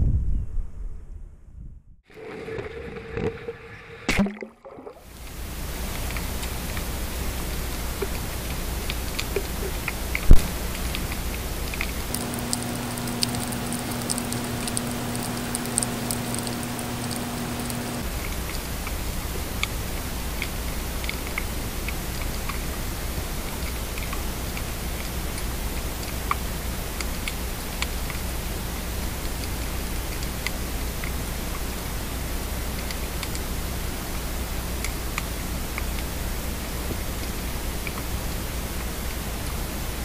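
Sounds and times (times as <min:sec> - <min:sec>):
low hum: 0:00.1 - 0:40.0
underwater hiss with clicks: 0:04.1 - 0:39.7.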